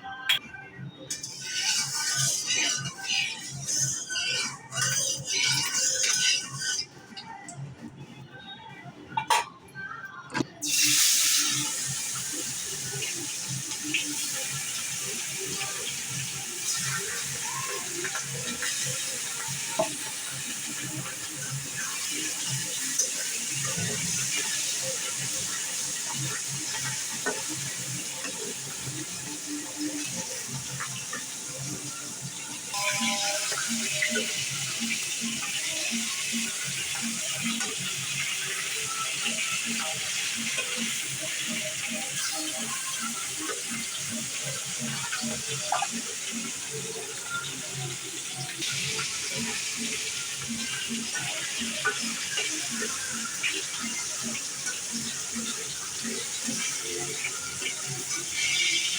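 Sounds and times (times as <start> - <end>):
fish sizzling in hot oil: 1.1 - 7.0, 10.6 - 58.9.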